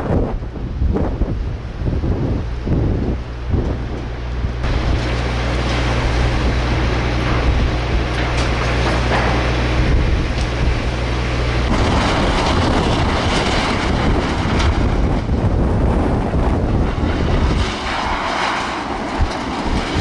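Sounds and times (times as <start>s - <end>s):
strong wind on microphone: 0.0s - 20.0s.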